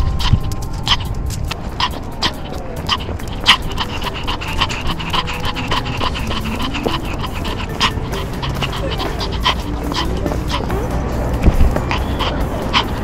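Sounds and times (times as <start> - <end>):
dog panting fast: 0.0 - 13.0
low rumble of movement: 0.0 - 13.0.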